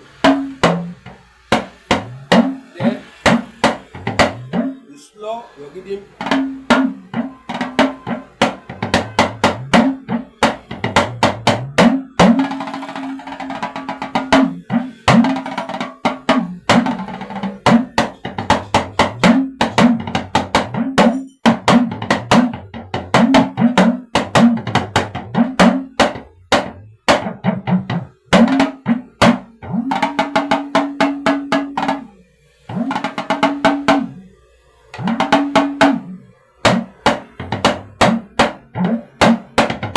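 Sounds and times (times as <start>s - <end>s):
talking drum strokes: 0.0s - 39.9s.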